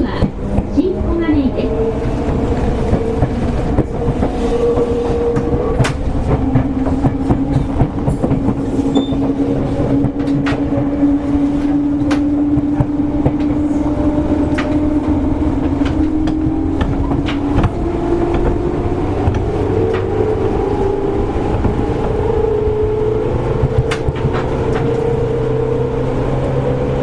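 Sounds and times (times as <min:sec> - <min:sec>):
traction motor hum: 0:00.0 - 0:27.0
train running noise: 0:00.0 - 0:27.0
wheels clicking over rail joints: 0:00.0 - 0:27.0.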